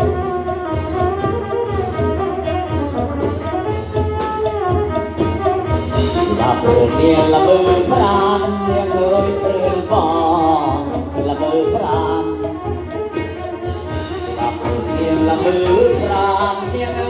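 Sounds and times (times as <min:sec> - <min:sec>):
drums beating: 0:00.0 - 0:17.0
wavering melody line: 0:00.0 - 0:17.0.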